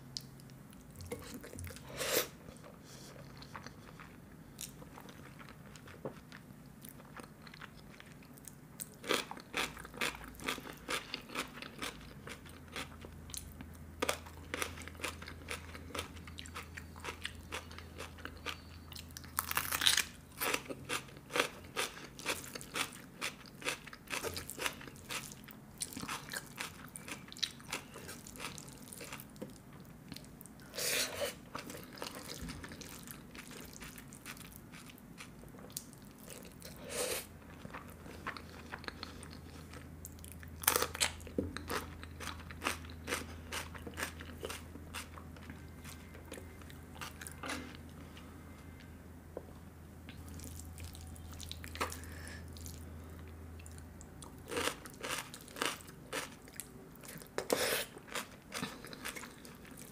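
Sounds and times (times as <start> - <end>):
chewing food: 2.6 - 30.7, 31.5 - 36.8, 37.4 - 48.9, 50.1 - 59.9.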